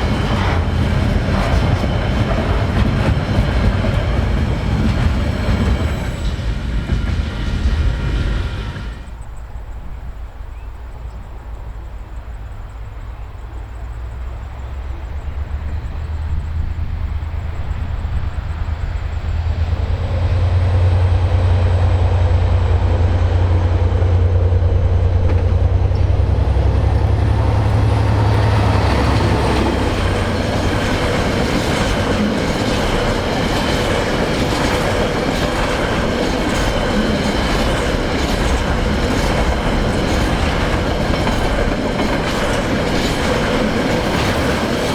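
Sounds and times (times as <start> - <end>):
train wheels clickety-clack: 0.0 - 9.2, 17.2 - 44.9
locomotive engine rumble: 0.0 - 44.9.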